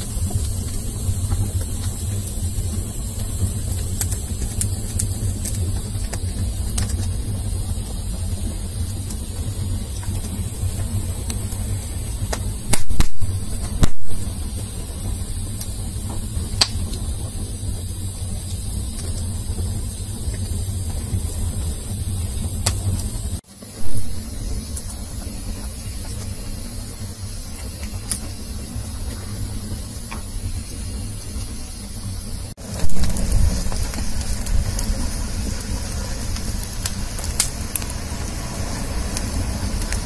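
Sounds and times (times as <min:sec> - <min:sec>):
fire crackling pops: 0:00.0 - 0:40.0
low rumble of flames: 0:00.0 - 0:40.0.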